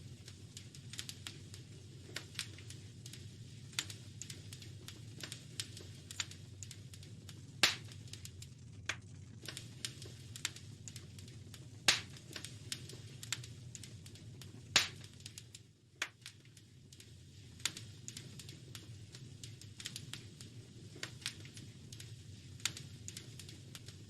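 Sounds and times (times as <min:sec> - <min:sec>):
loud fire snaps: 0:00.0 - 0:24.0
low steady rumble: 0:00.0 - 0:24.0
wood fire crackling: 0:00.0 - 0:24.0.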